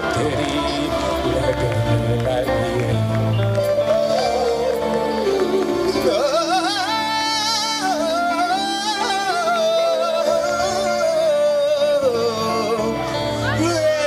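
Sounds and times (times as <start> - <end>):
instrumental accompaniment: 0.0 - 14.0.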